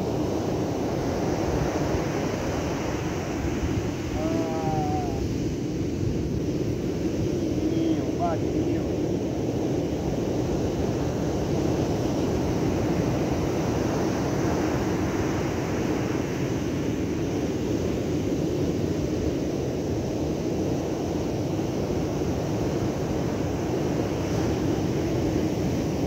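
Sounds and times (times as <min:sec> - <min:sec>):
surf breaking on beach: 0:00.0 - 0:26.0.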